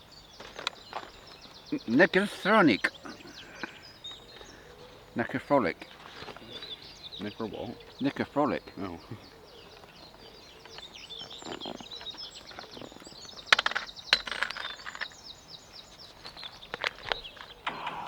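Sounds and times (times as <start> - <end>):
birds chirping and trilling: 0.0 - 18.0.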